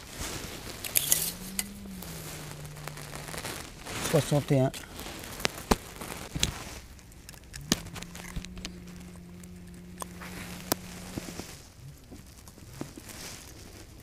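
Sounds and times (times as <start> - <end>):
rustling of hands net and grass: 0.0 - 14.0
low hum: 0.1 - 12.8.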